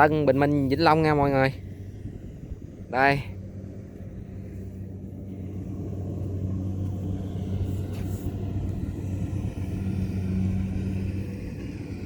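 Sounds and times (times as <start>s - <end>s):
diesel engine humming under load: 0.0s - 12.0s.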